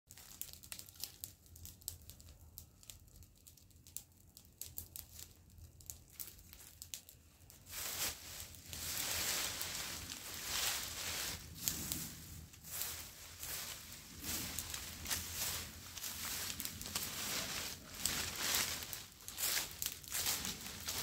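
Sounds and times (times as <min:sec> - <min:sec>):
dry grass crackling and rustling: 0:00.1 - 0:21.0.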